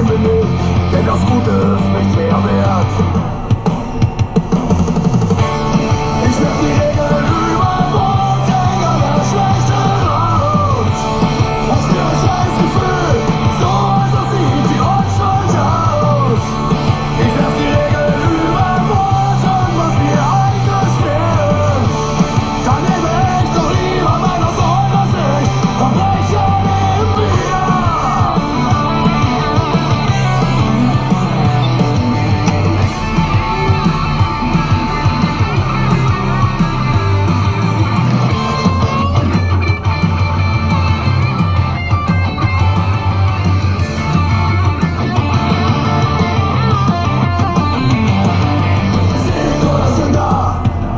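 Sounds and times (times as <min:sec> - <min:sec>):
loud rock music: 0:00.0 - 0:50.9.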